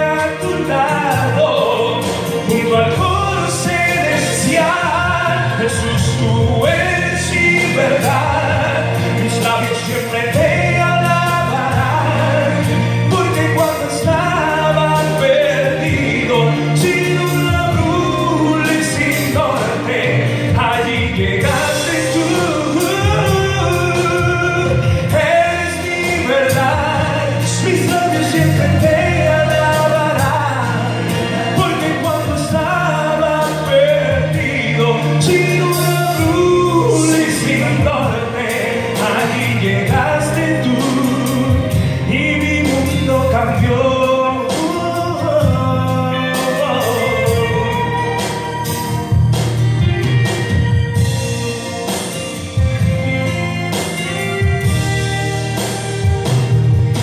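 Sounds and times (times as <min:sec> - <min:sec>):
man singing into microphone: 0:00.0 - 0:49.2
backing music with bass line: 0:00.0 - 0:57.0.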